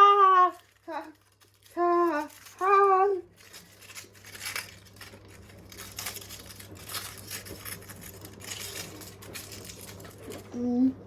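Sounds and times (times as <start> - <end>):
crinkling and crunching: 0.0 - 10.7.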